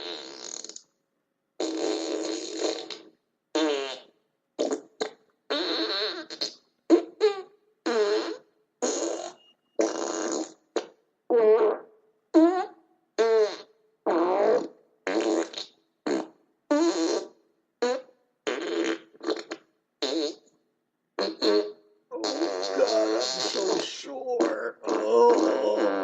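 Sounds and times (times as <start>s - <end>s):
buzzy fart-like blasts: 1.6s - 20.5s, 21.2s - 26.0s.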